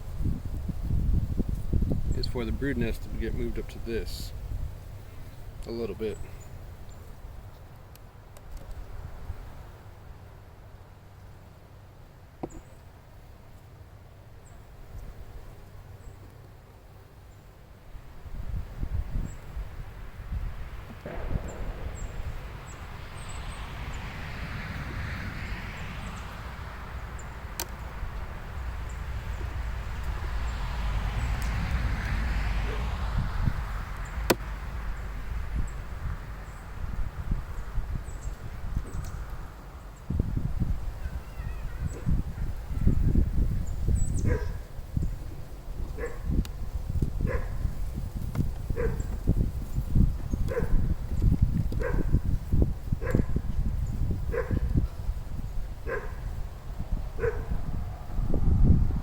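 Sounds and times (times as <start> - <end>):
wind buffeting microphone: 0.0 - 7.5, 18.0 - 59.0.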